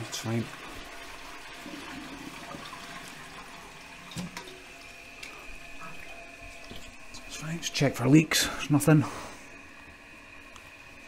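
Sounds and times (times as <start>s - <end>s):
toilet cistern refilling: 0.0s - 11.0s.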